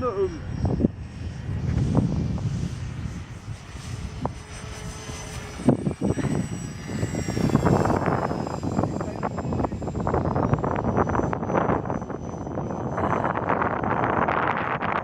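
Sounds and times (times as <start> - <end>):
model plane motor whine: 0.0 - 15.0
wind rumbling on microphone: 0.0 - 15.0.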